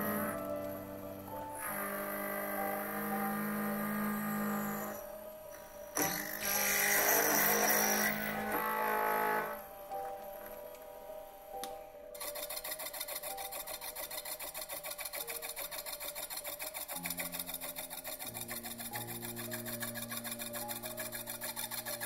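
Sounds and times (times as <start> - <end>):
slitting saw cutting metal: 0.0 - 9.6, 12.2 - 22.0
quiet background music: 0.0 - 22.0.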